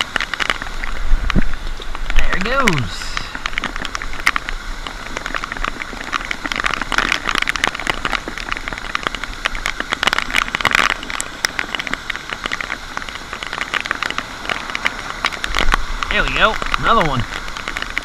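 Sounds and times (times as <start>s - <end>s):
raindrops crackling near microphone: 0.0s - 18.0s
steady rain: 0.0s - 18.0s.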